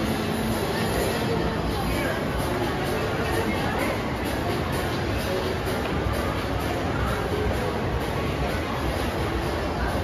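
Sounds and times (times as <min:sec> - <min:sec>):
murmur of voices: 0:00.0 - 0:10.0.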